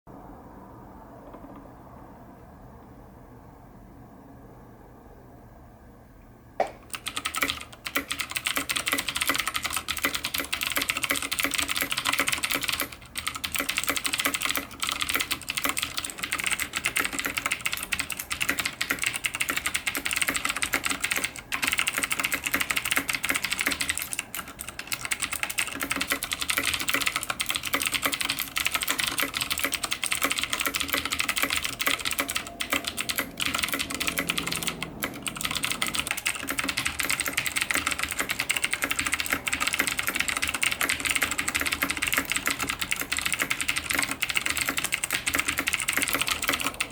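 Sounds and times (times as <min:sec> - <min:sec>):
mechanical keyboard typing: 0:06.7 - 0:46.9.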